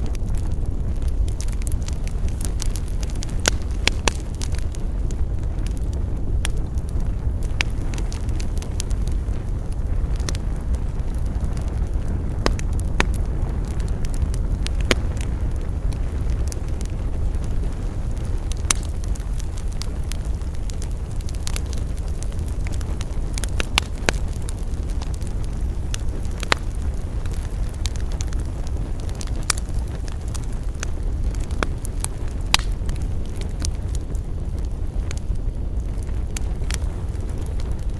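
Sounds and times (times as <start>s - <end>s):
campfire flames rumbling: 0.0s - 37.9s
fire crackling and popping: 0.0s - 37.9s.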